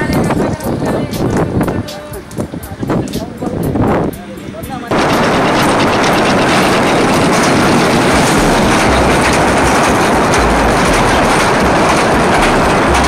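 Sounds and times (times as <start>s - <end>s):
train wheels rattling on track: 0.0s - 13.0s.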